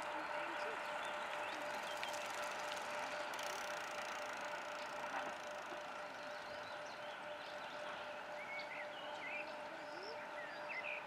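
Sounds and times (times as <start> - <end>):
birds chirping: 0.0 - 11.0
electric train humming and whining: 0.0 - 11.0.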